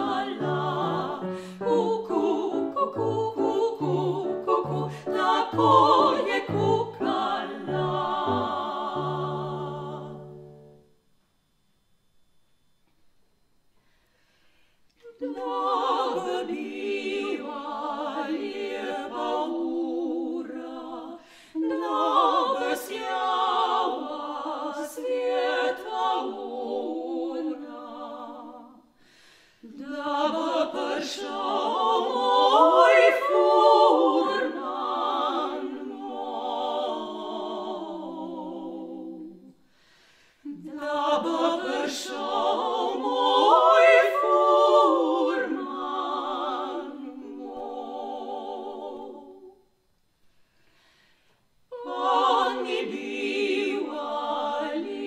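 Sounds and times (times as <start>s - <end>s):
women singing unaccompanied: 0.0s - 10.4s, 15.0s - 28.8s, 29.6s - 39.6s, 40.4s - 49.6s, 51.7s - 55.0s.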